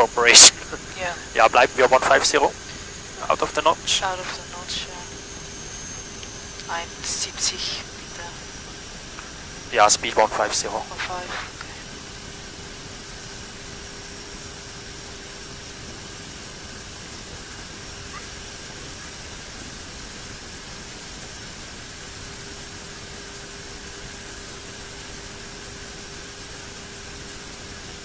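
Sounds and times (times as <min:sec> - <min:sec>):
airplane cockpit engine rush: 0:00.0 - 0:28.0
high engine whine: 0:00.0 - 0:28.0.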